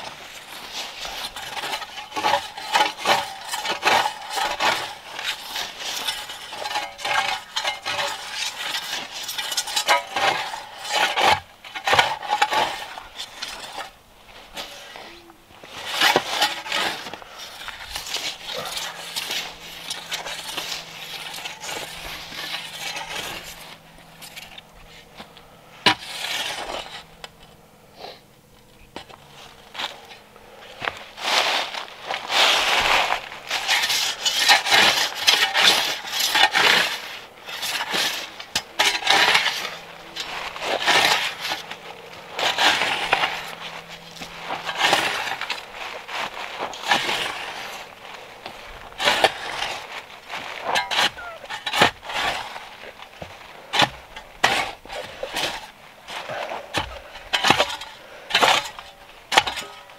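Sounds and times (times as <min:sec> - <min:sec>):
shovel scraping soil: 0:00.0 - 0:27.2, 0:29.0 - 0:59.9.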